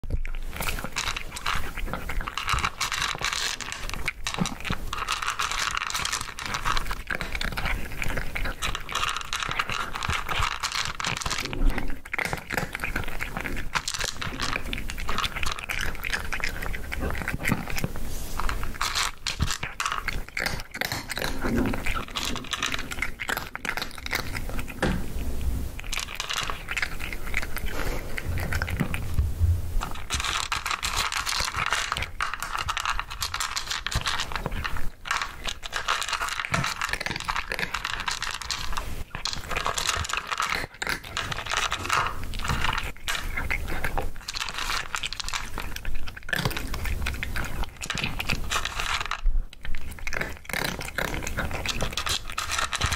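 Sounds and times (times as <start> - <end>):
cat crunching dry kibble: 0.0 - 29.2, 29.8 - 52.9.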